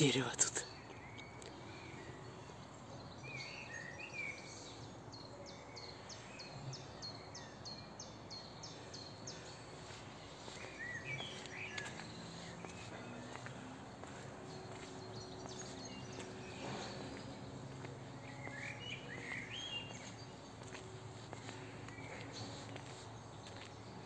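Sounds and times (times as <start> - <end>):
faint songbird song: 0.0 - 24.0
outdoor background noise: 0.0 - 24.0.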